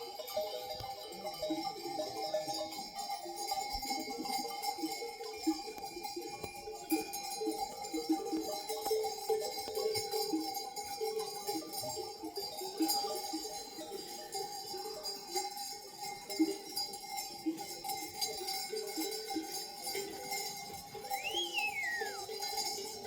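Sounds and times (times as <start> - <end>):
livestock bells clanking: 0.0 - 23.0.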